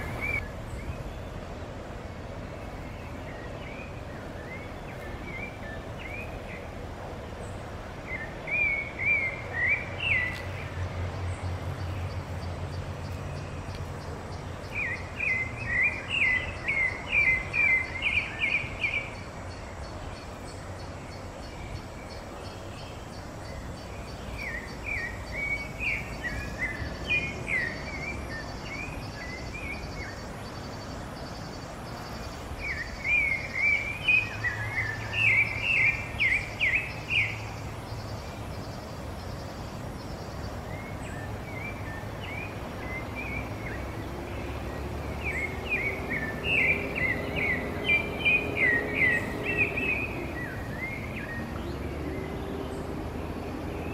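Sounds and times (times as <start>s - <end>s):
bird singing chirping phrases: 0.0s - 53.9s.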